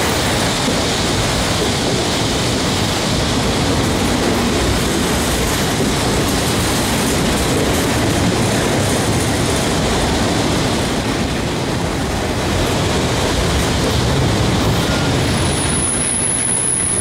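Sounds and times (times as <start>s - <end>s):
steel wheels running on rails: 0.0s - 17.0s.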